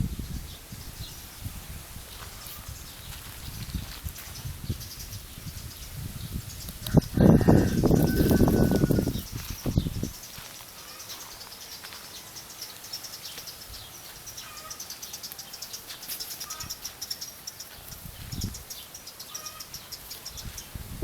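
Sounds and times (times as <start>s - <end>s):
rapid high-pitched chirping: 2.4s - 20.8s.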